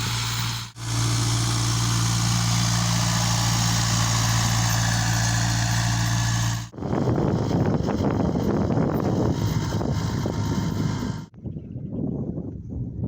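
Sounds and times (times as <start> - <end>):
rough rumble with crackling: 0.0 - 11.3
tractor diesel engine running: 0.0 - 11.3.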